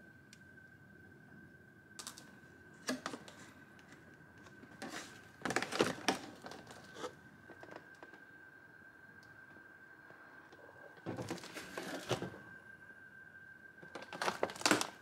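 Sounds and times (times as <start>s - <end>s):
faint high-pitched hum: 0.0s - 15.0s.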